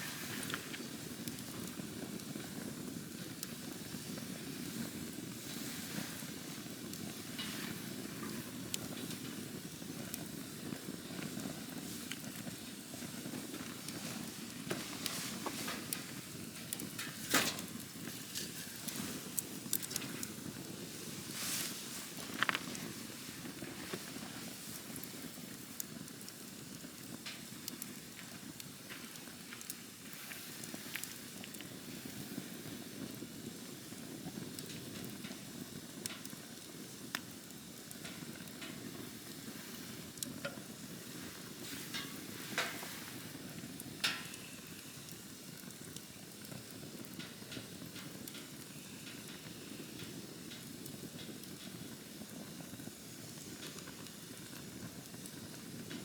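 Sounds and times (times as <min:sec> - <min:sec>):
campfire flames rushing: 0:00.0 - 0:56.0
fire crackling and popping: 0:00.0 - 0:56.0.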